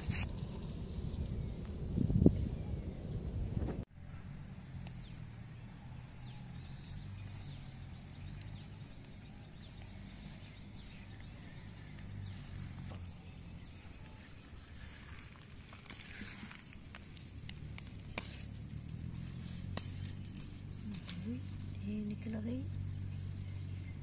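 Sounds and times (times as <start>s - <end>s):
low rumble: 0.0s - 24.0s
bird chirps: 4.0s - 24.0s.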